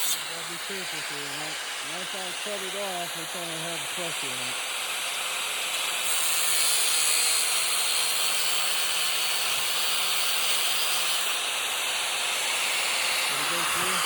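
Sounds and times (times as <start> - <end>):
angle grinder cutting: 0.0 - 14.0.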